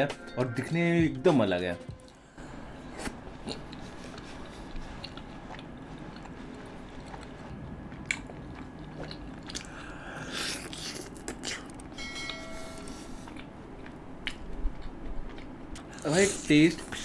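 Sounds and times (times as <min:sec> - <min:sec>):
chewing food: 0:02.9 - 0:17.0.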